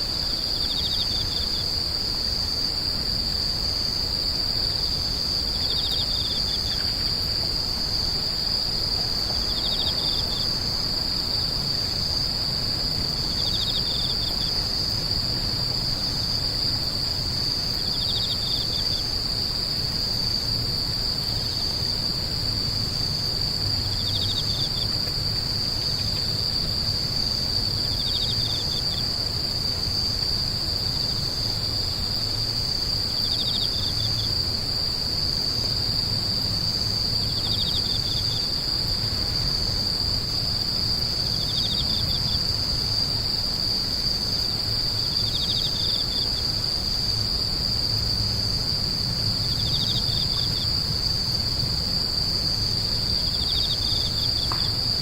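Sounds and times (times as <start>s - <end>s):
insect high steady trill: 0.0s - 55.0s
insect pulsed chirp: 0.0s - 55.0s.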